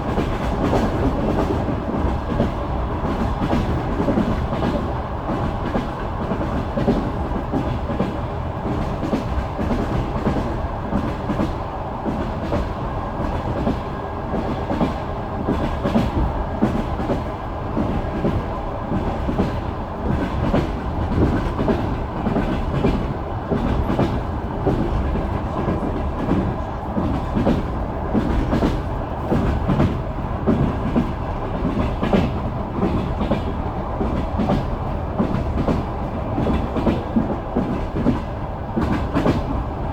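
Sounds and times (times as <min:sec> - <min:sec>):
train carriage low rumble: 0:00.0 - 0:39.9
train wheels clacking on rail joints: 0:00.0 - 0:39.9.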